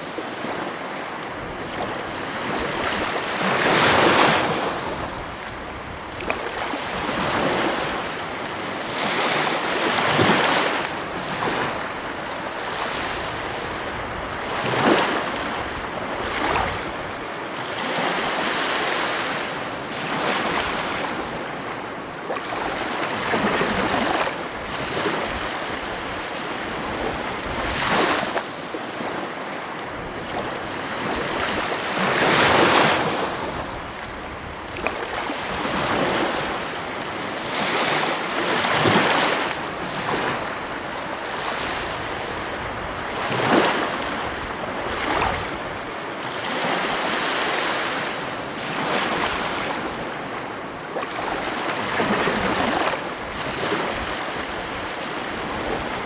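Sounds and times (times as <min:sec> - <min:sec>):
heavy ocean waves breaking: 0:00.0 - 0:56.0.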